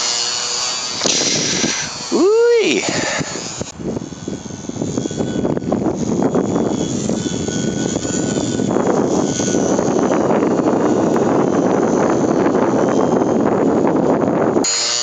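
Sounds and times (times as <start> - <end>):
model plane motor buzzing: 0.0 - 15.0
wind buffeting microphone: 0.6 - 15.0.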